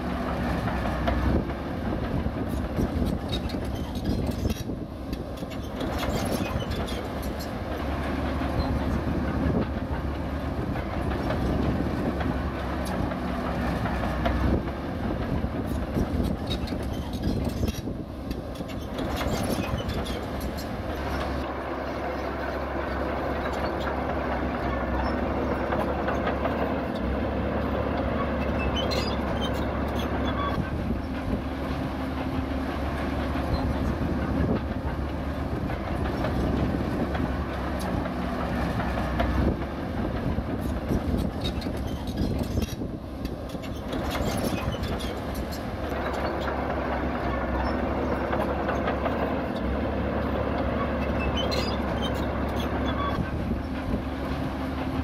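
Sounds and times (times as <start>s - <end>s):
bulldozer diesel engine running: 0.0s - 55.0s
steel tracks clattering: 0.0s - 55.0s.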